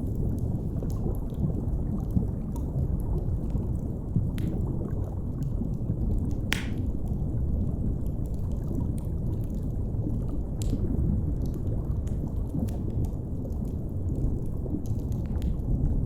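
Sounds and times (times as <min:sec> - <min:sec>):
underwater rumble and wash: 0:00.0 - 0:16.0
wood fire crackles: 0:00.0 - 0:16.0.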